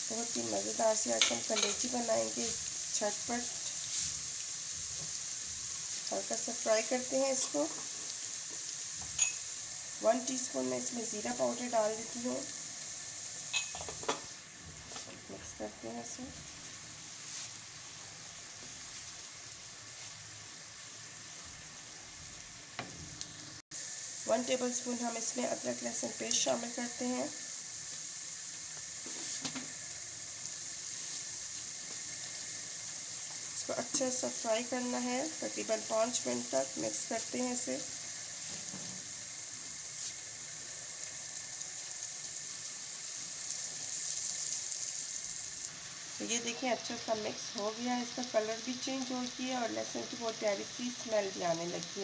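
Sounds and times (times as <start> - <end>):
onion frying in hot oil: 0.0 - 52.0.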